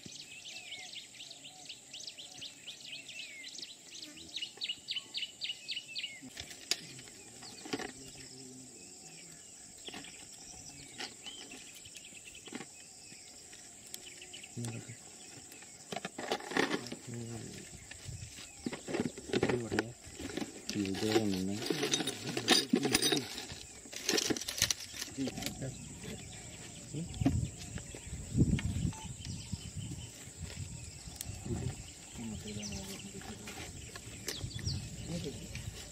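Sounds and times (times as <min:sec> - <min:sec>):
bird chirps: 0:00.0 - 0:35.9.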